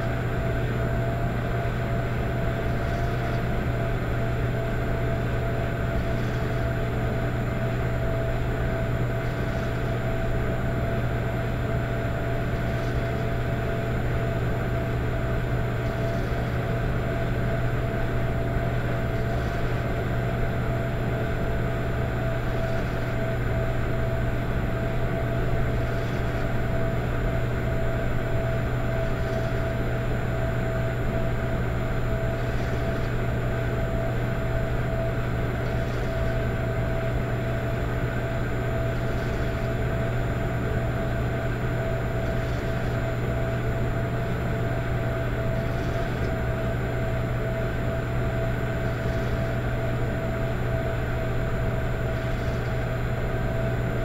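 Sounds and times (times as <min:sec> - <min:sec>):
electric fireplace humming: 0:00.0 - 0:54.0
mid-pitched whine: 0:00.0 - 0:54.0.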